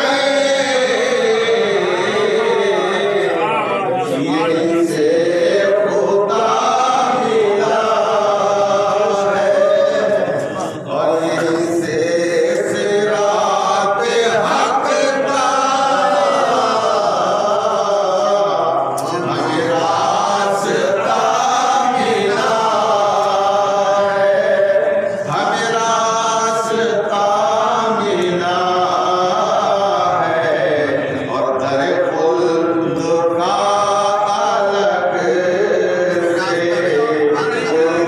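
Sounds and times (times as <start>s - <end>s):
men singing devotional song: 0.0s - 38.0s.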